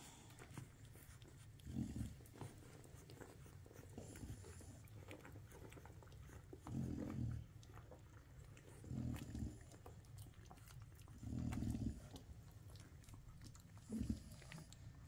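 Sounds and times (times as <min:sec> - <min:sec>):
puppies suckling smacks: 0:00.0 - 0:15.0.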